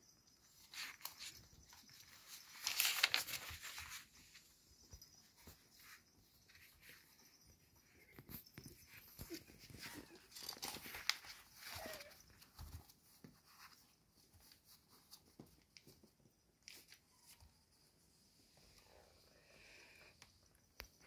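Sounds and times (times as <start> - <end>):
puppies rustling on bedding: 0.3 - 18.1.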